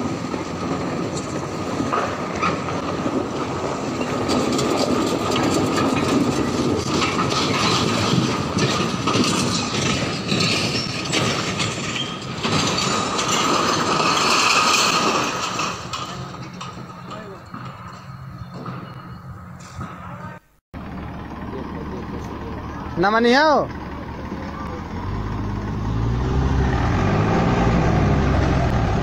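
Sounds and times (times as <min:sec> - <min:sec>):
tractor engine running: 0:00.0 - 0:29.0
trailer load rattling and clanking: 0:00.0 - 0:29.0.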